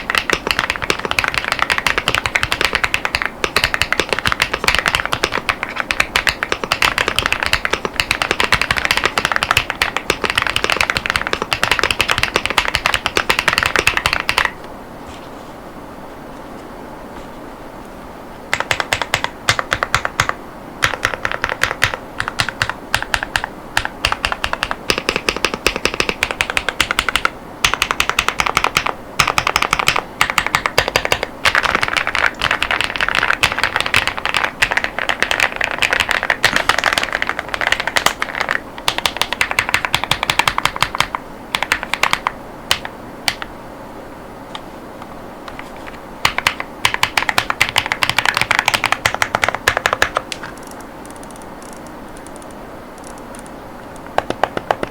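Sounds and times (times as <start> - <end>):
typing on mechanical keyboard: 0.0 - 14.6, 18.5 - 43.5, 46.2 - 53.5, 54.2 - 54.9.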